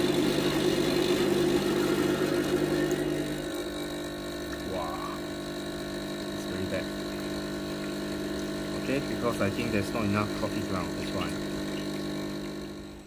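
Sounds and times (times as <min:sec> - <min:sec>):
espresso dripping: 0:00.0 - 0:13.0
espresso machine pump humming: 0:00.0 - 0:13.0.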